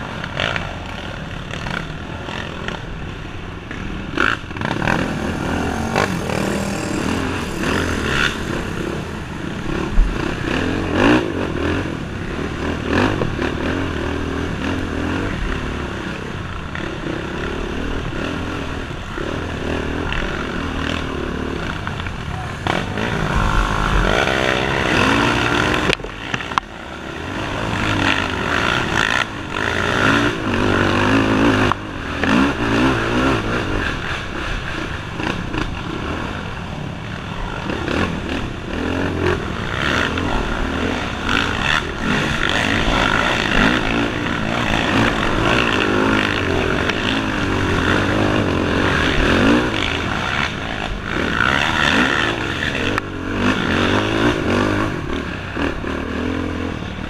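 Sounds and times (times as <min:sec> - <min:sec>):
quad engine revving: 0:00.0 - 0:36.4, 0:37.2 - 0:57.0.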